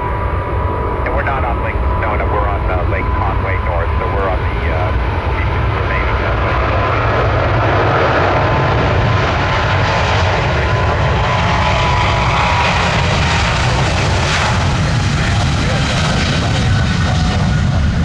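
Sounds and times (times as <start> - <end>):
jet engines roaring with whine: 0.0 - 18.0.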